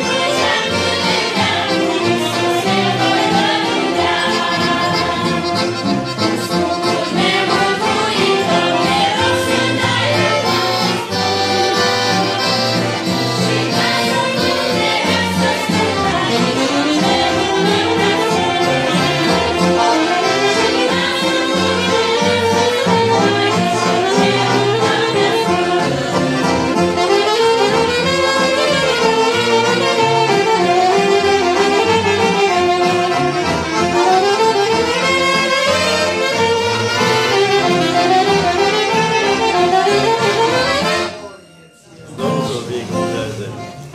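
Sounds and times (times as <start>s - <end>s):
saxophones playing a hymn melody: 0.0s - 41.6s
accordion accompaniment: 0.0s - 43.9s.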